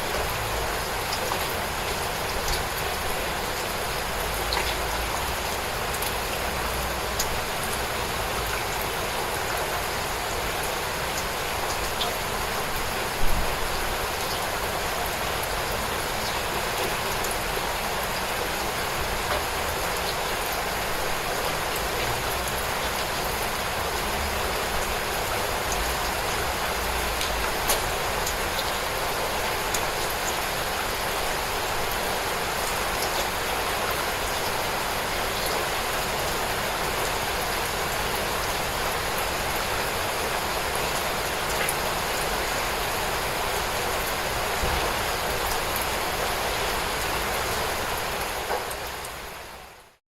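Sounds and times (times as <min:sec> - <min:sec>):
gentle rain falling: 0:00.0 - 0:50.0.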